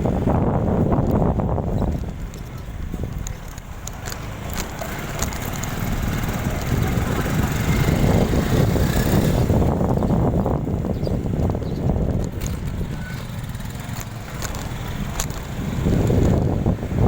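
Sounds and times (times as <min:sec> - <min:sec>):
motorbike engine and road rumble: 0:00.0 - 0:17.0.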